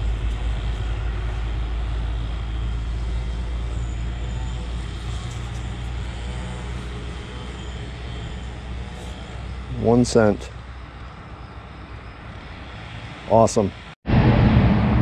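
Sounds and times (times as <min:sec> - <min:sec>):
vehicle passing rumble: 0:00.0 - 0:15.0.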